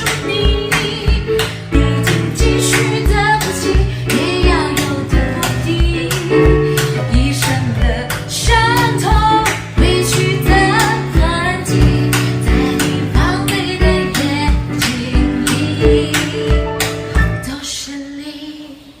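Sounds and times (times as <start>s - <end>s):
steady drum beat: 0.0s - 17.4s
guitar: 0.0s - 17.7s
woman singing pop ballad: 0.0s - 19.0s.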